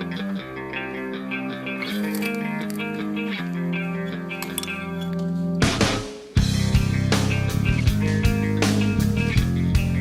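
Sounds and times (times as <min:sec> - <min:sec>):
rock music with guitar and drums: 0:00.0 - 0:10.0.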